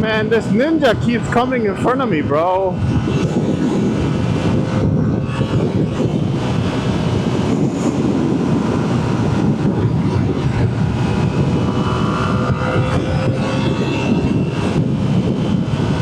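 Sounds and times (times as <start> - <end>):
wind rushing over microphone: 0.0 - 16.0
motorcycle engine cruising: 2.8 - 16.0.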